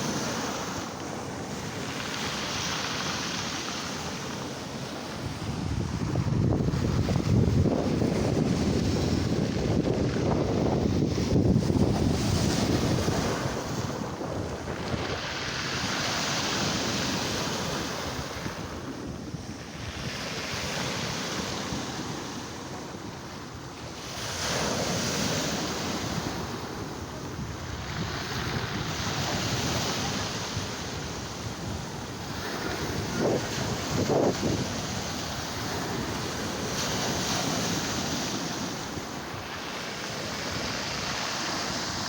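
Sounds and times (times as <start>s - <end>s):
waves breaking on shore: 0.0s - 42.0s
wind buffeting microphone: 1.2s - 42.0s.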